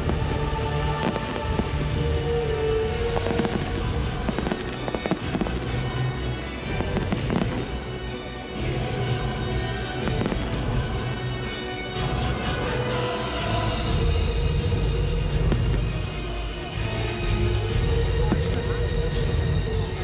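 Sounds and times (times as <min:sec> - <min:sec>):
fireworks bangs and crackles: 0:00.0 - 0:12.7, 0:13.7 - 0:20.0
music playing: 0:00.0 - 0:20.0.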